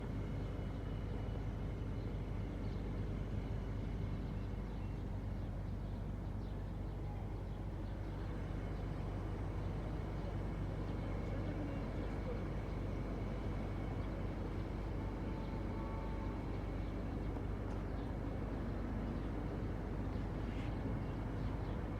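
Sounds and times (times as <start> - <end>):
faint steady tones: 0.5 - 21.9.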